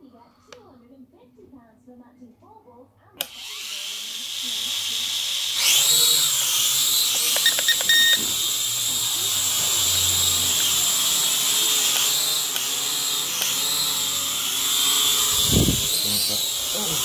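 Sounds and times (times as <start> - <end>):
toy drone motors whining: 3.2 - 17.0.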